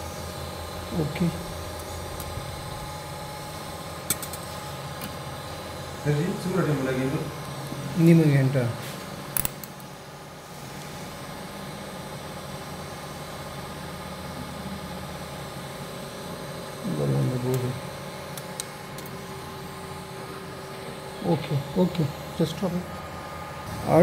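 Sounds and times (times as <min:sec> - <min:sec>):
machinery hum with tones: 0:00.0 - 0:24.0.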